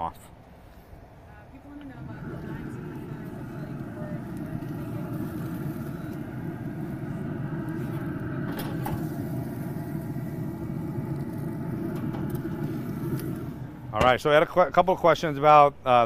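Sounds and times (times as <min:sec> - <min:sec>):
steady low rumble: 0:01.5 - 0:14.8.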